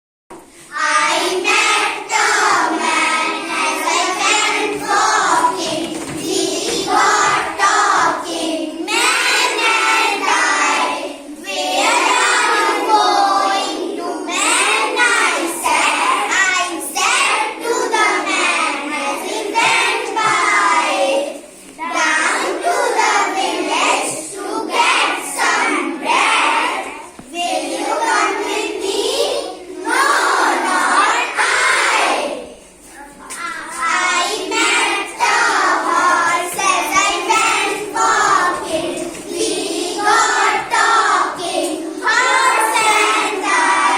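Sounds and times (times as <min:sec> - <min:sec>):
young children singing: 0:00.3 - 0:43.9.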